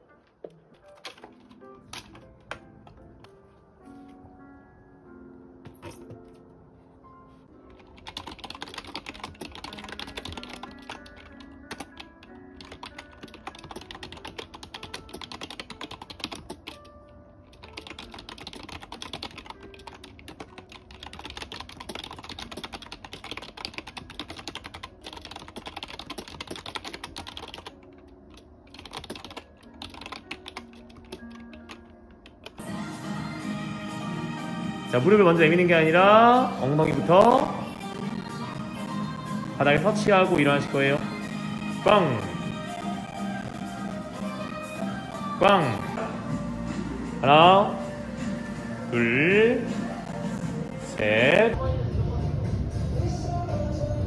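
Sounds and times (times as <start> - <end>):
soft background music: 0.0 - 54.0.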